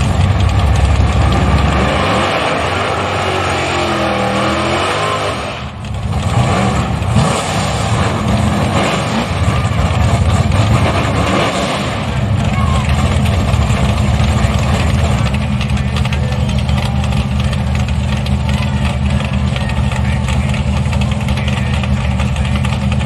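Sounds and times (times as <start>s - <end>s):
drag racing engine running hard: 0.0s - 23.0s.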